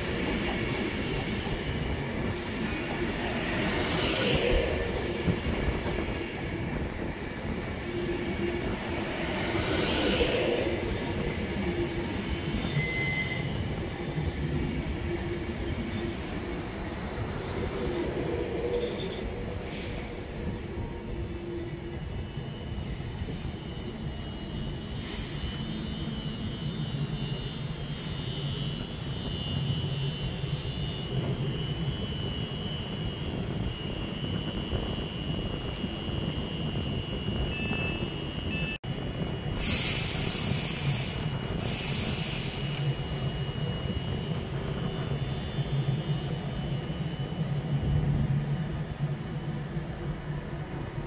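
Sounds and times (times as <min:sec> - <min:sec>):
train low rumble: 0:00.0 - 0:51.0.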